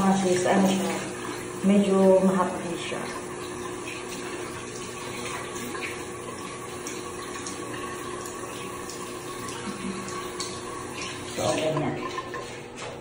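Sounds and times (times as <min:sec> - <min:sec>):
tap water running into sink: 0:00.0 - 0:13.0
water splashing on face: 0:00.0 - 0:13.0.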